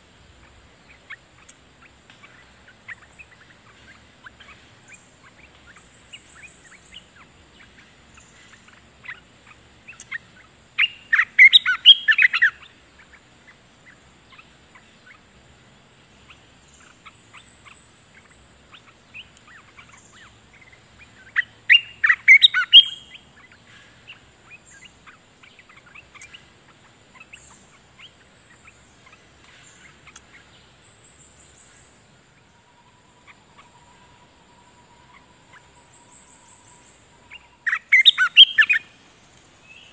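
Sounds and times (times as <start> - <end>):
bird song bursts: 0.0 - 39.9
soft bird chirping: 0.0 - 39.9.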